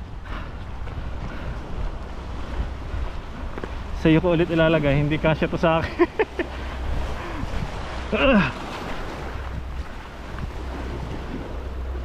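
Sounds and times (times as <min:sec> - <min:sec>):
waves washing on rocks: 0:00.0 - 0:12.0
wind buffeting microphone: 0:00.0 - 0:12.0.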